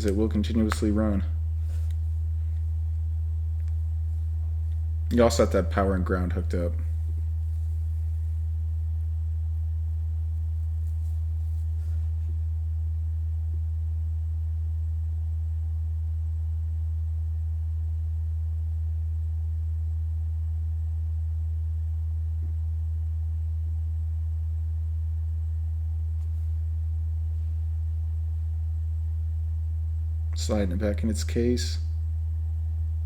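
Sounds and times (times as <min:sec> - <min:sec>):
loud low hum: 0:00.0 - 0:33.0.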